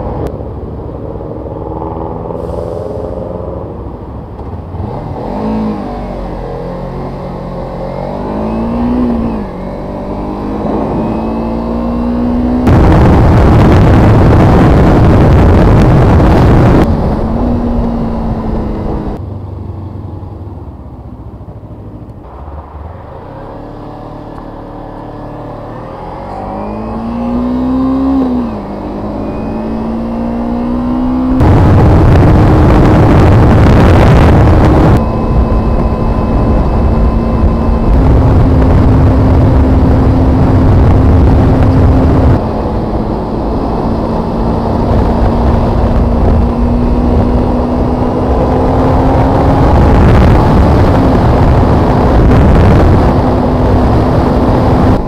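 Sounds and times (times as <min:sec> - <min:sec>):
road and wind rush: 0:00.0 - 0:55.0
motorcycle engine revving: 0:01.0 - 0:19.2, 0:22.2 - 0:55.0.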